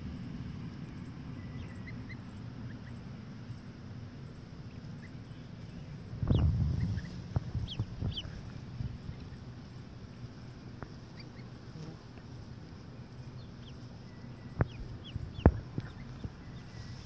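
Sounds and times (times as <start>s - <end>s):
steady low rumble: 0.0s - 17.0s
goslings and ducklings peeping: 0.7s - 17.0s.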